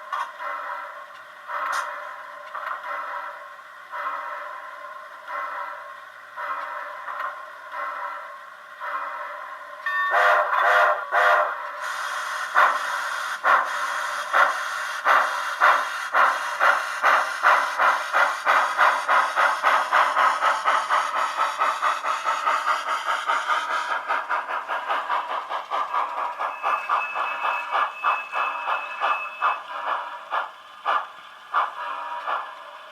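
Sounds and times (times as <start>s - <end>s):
steam locomotive exhaust chuffs: 0.0s - 32.9s.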